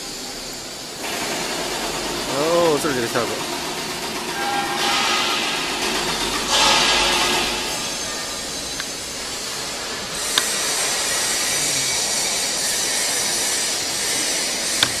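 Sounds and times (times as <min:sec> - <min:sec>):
hissing factory workshop noise: 0:00.0 - 0:15.0.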